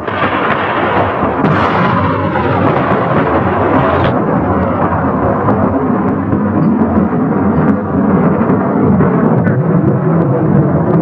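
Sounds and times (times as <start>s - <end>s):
deep explosion rumble: 0.0s - 11.0s.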